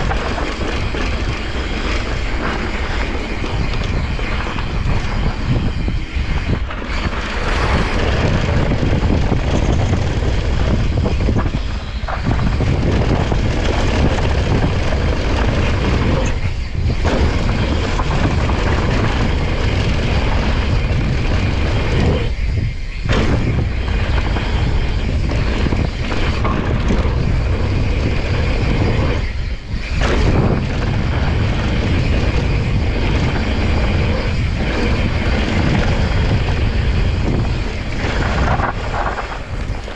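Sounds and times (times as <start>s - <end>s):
bike tyres rolling over dirt: 0.0s - 39.9s
wind rumble on microphone: 0.0s - 39.9s.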